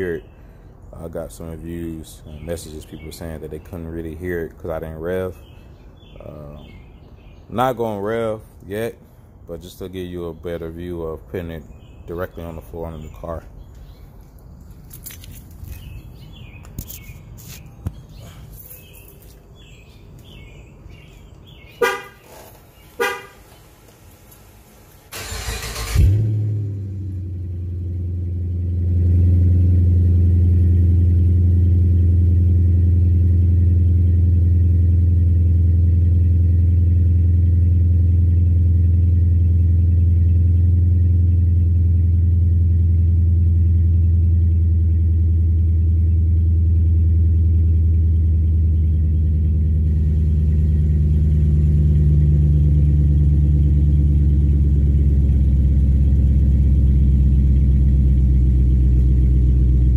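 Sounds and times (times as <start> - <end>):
car engine cranking and idling: 11.7 - 59.9.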